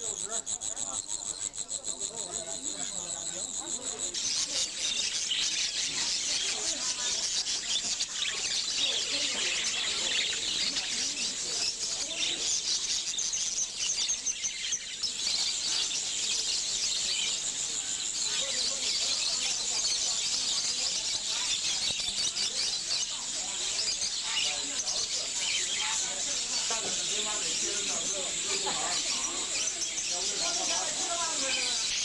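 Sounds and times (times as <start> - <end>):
faint voices of people: 0.0 - 32.0
many small birds chirping: 0.0 - 32.0.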